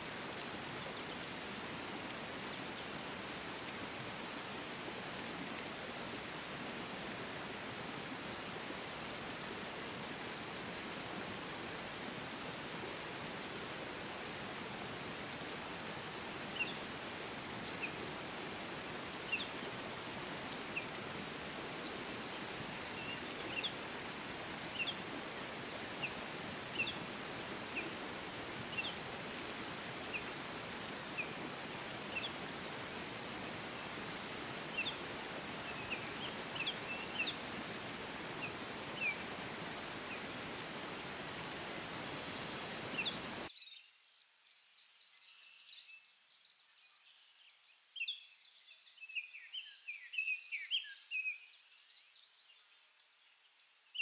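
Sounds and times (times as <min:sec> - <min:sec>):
water rushing: 0:00.0 - 0:43.5.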